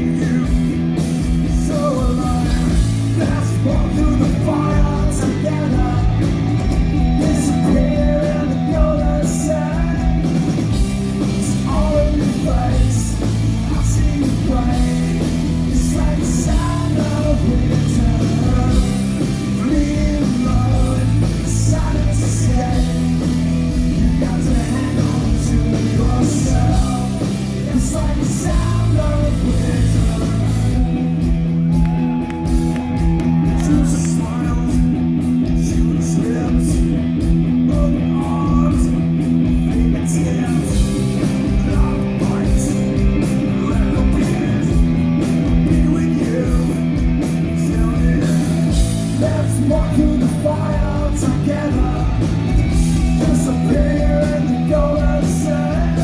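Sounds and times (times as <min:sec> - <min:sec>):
live rock band playing: 0:00.0 - 0:56.0
man singing lead vocal: 0:00.0 - 0:56.0.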